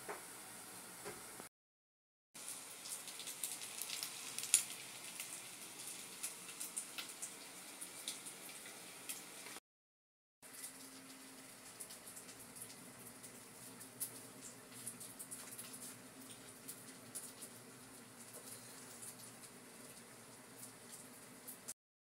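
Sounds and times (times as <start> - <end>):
intestine frying in hot oil: 0.0 - 1.5, 2.4 - 9.6, 10.4 - 21.8.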